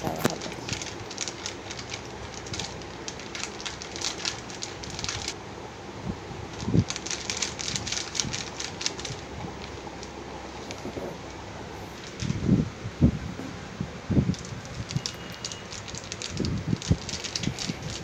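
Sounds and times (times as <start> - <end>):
plastic packet crinkling: 0.0 - 5.4, 6.5 - 12.5, 14.3 - 18.0.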